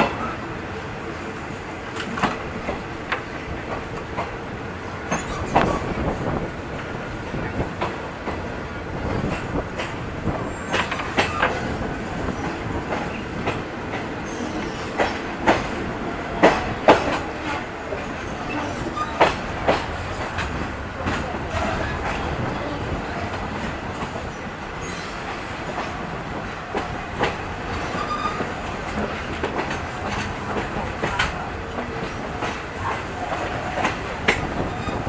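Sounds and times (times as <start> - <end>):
train wheels rumbling and rattling: 0.0 - 35.0.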